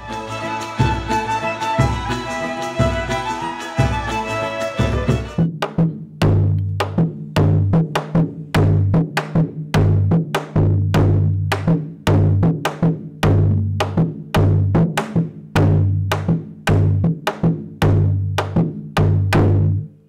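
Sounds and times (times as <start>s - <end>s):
drums playing quick rhythm: 0.0s - 19.7s.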